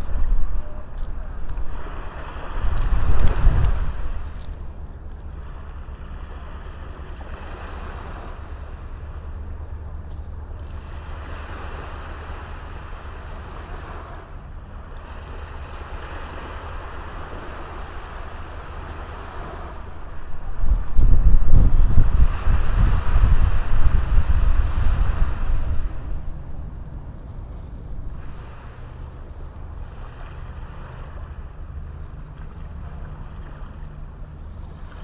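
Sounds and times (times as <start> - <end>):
sea waves washing on beach: 0.0 - 35.0
wind rumble on microphone: 0.0 - 35.0.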